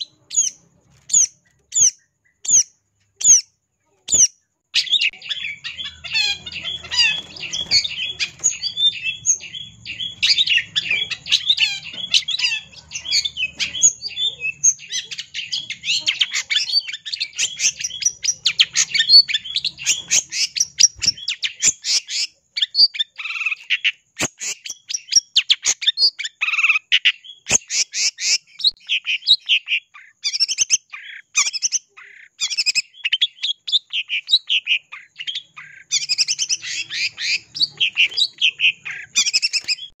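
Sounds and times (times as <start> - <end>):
bird singing high chattering notes: 0.0 - 40.0.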